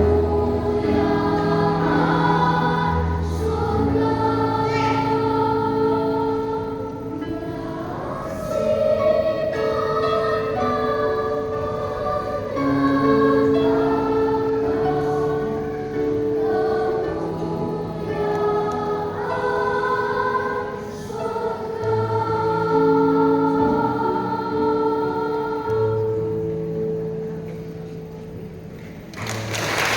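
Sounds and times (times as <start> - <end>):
children's choir singing a hymn: 0.0 - 29.9.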